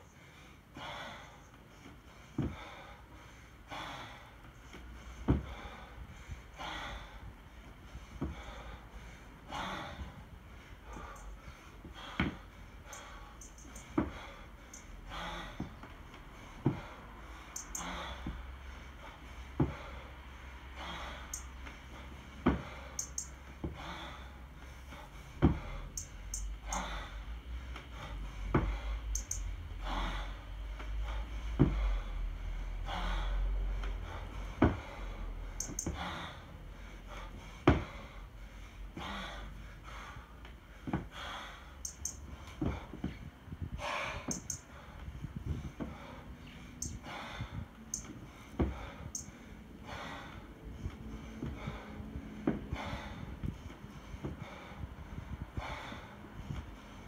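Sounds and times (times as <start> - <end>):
hard rhythmic breathing: 0.0 - 57.0
sharp gasping breaths: 0.0 - 57.0.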